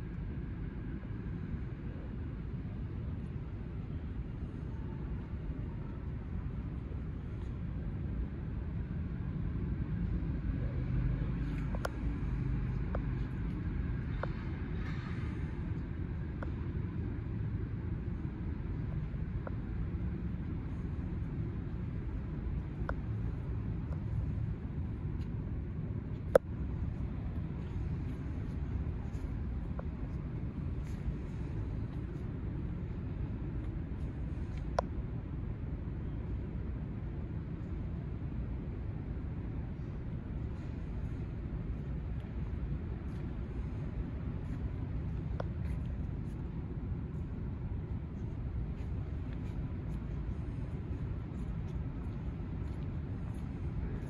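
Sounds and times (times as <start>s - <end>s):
low hall rumble: 0.0s - 54.0s.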